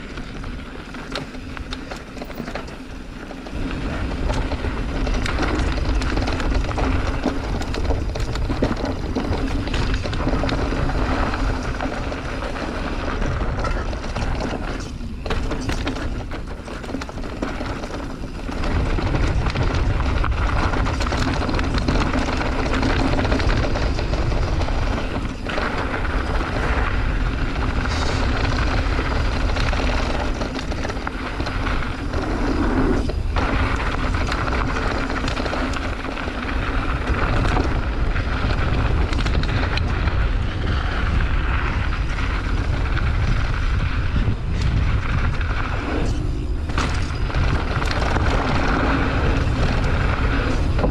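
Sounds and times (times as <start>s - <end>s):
bike rattling over rough ground: 0.0s - 50.9s
wind buffeting microphone: 0.0s - 50.9s.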